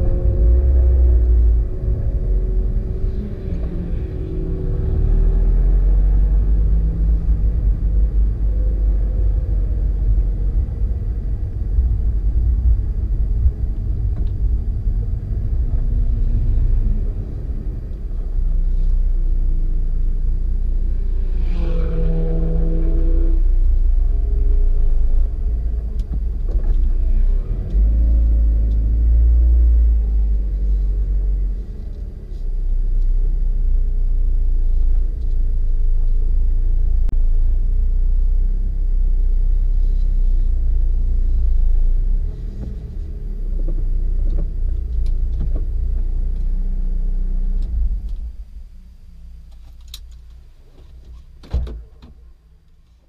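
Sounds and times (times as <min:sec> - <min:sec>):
low hum: 0:00.0 - 0:50.7
car engine rumble: 0:00.0 - 0:53.0.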